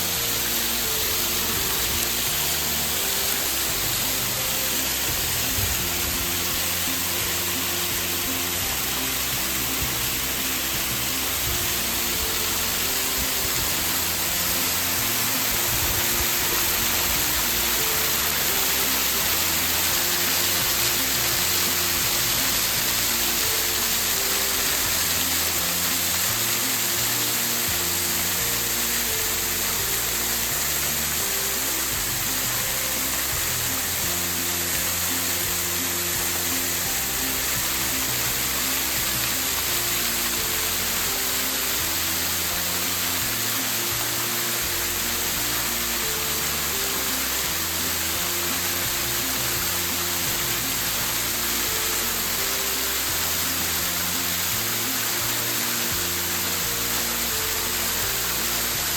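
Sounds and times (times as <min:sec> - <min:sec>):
slow low-note background music: 0:00.0 - 0:58.9
waterfall rushing: 0:00.0 - 0:58.9.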